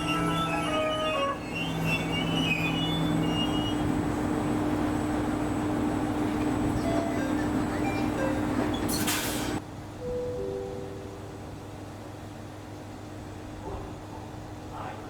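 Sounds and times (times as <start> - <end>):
train humming: 0.0 - 15.0.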